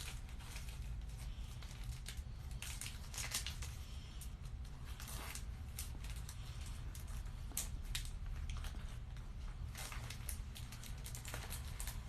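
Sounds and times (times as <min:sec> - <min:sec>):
packaging rustling and crinkling: 0:00.0 - 0:12.0
steady low hum: 0:00.0 - 0:12.0.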